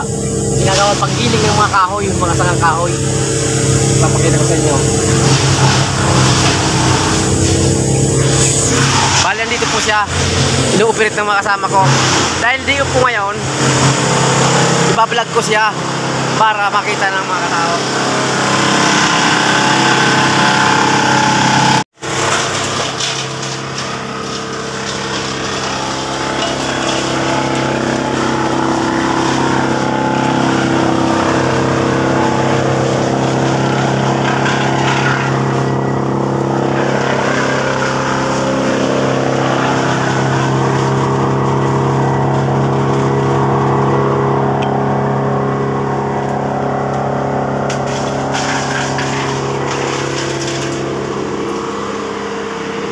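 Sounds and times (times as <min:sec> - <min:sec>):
wood chipper engine running: 0:00.0 - 0:52.9.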